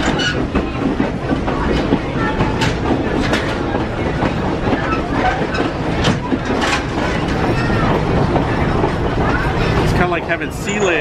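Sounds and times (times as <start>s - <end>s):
railroad car wheels rumbling: 0.0s - 11.0s
creaking and moaning: 1.5s - 11.0s.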